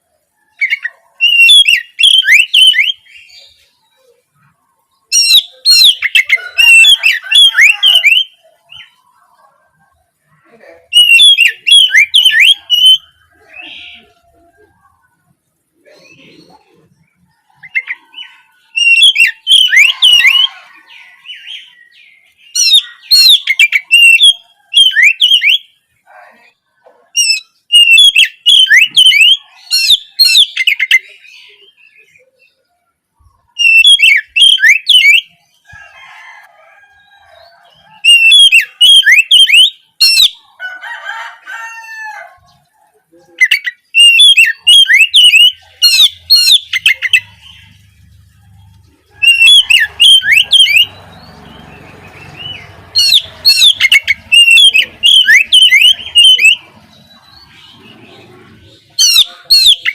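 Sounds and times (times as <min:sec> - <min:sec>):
rough lower bird calls: 0:00.0 - 0:36.0, 0:36.9 - 0:59.9.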